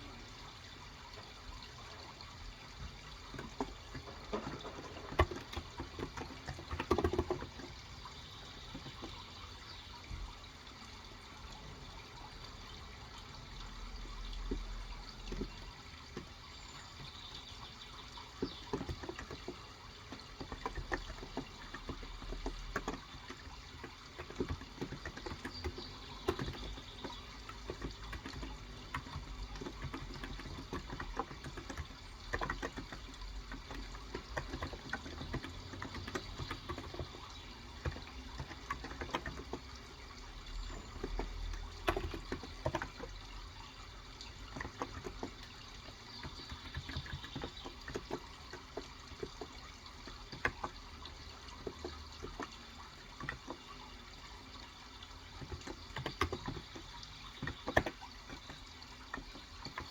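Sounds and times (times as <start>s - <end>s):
soft keyboard typing: 0.0s - 10.3s, 13.3s - 59.9s
trickling water: 0.0s - 59.9s.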